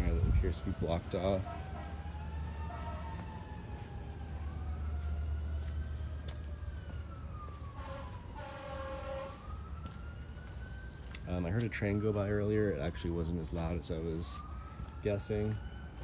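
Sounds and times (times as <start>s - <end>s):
siren wailing: 0.0s - 16.0s.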